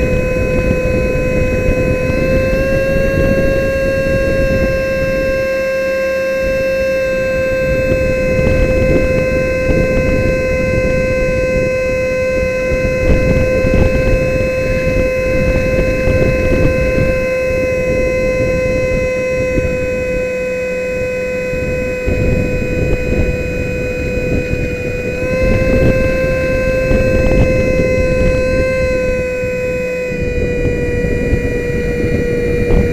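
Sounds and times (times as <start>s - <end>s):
electric ducted fan whine: 0.0s - 32.9s
rushing wind noise: 0.0s - 32.9s.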